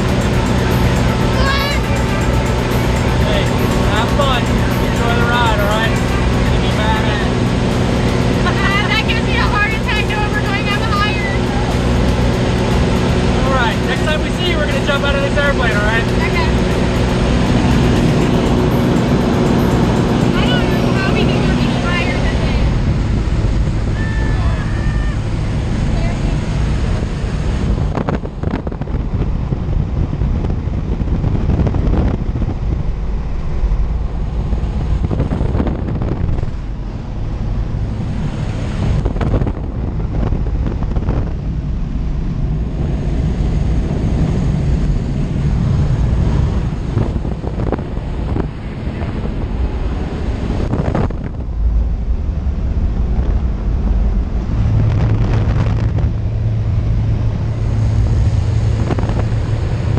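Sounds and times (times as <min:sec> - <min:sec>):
plane engine drone: 0:00.0 - 0:59.9
wind noise in cabin: 0:06.6 - 0:59.9.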